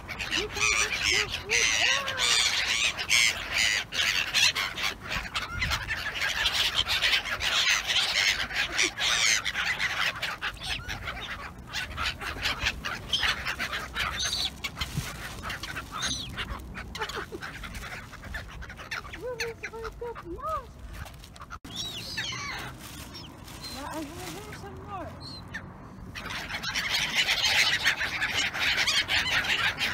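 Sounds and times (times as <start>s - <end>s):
gulls calling: 0.0s - 29.9s.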